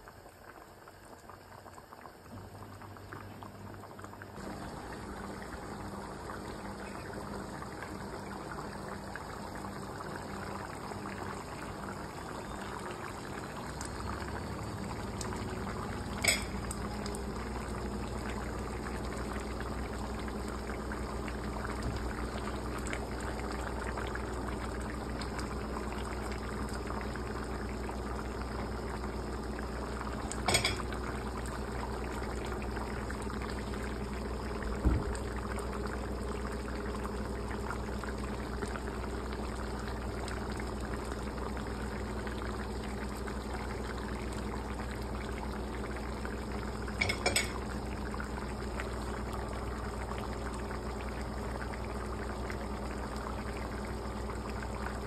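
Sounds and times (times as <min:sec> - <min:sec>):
curry bubbling in a wok: 0:00.0 - 0:55.0.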